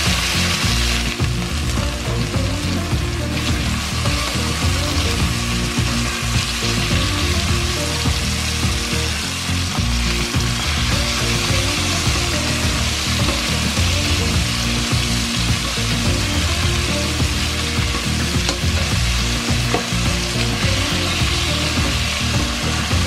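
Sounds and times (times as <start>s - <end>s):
chicken sizzling in a pot: 0.0s - 23.0s.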